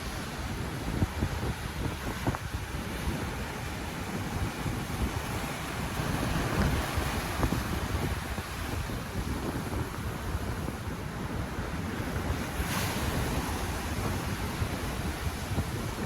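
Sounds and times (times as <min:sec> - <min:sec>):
ocean surf on a beach: 0:00.0 - 0:16.0
wind buffeting microphone: 0:00.0 - 0:16.0.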